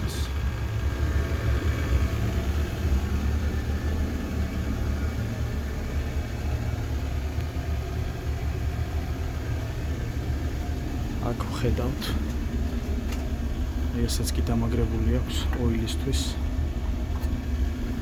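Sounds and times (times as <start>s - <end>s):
burner blower and flame rumbling: 0.0s - 18.0s.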